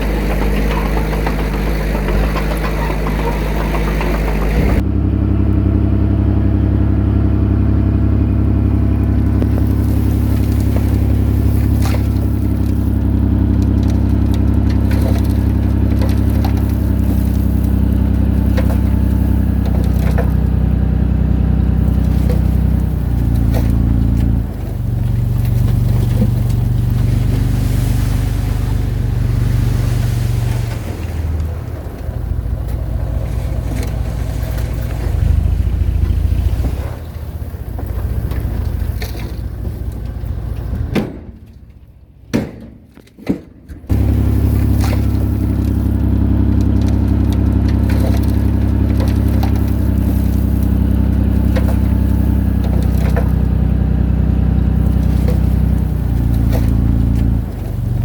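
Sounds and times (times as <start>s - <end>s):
bulldozer diesel engine running: 0.0s - 42.3s, 43.8s - 58.0s.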